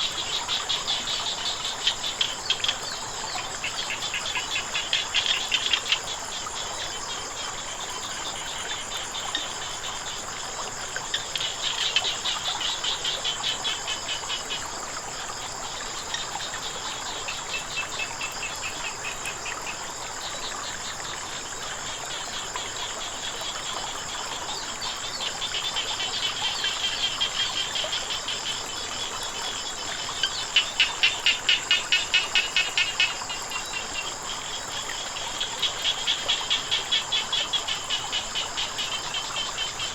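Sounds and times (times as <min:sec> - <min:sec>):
flowing water hiss: 0:00.0 - 0:39.9
frogs calling: 0:00.0 - 0:39.9
insect trill: 0:00.0 - 0:39.9.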